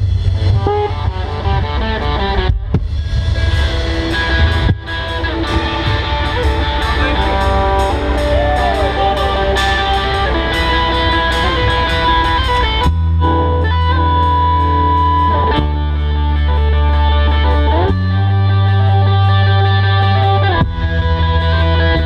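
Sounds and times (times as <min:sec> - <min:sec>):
bass: 0:00.0 - 0:22.0
drums: 0:00.0 - 0:22.0
electric guitars: 0:00.0 - 0:22.0.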